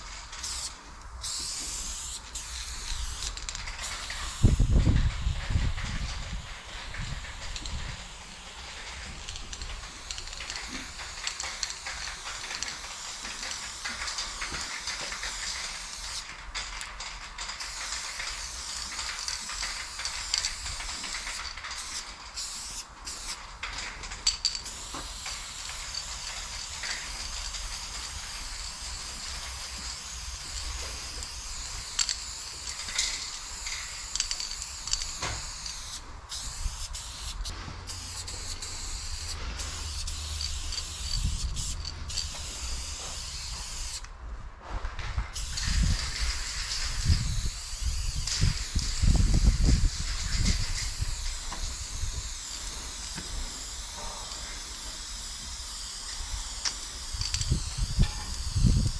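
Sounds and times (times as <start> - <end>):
spray-paint can hissing: 0.0 - 23.6, 24.2 - 44.1, 45.3 - 58.9.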